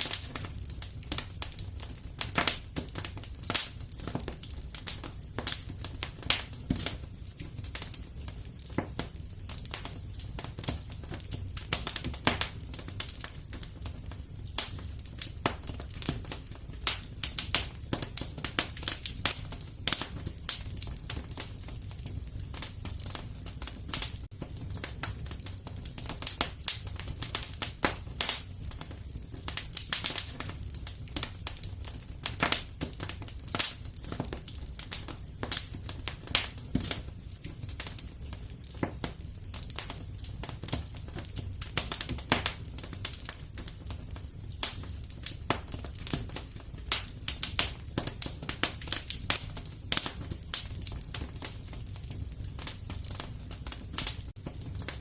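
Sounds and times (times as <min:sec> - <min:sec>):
fire crackling and snapping: 0:00.0 - 0:55.0
low rumble of flames: 0:00.0 - 0:55.0.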